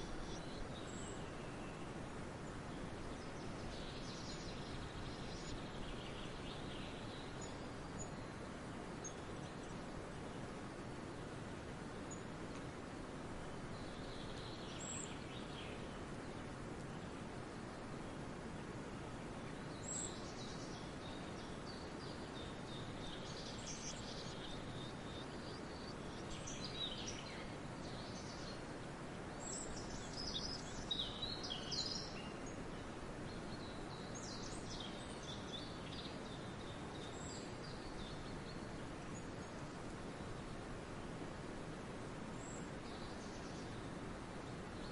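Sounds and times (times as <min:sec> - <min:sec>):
wind: 0:00.0 - 0:44.9.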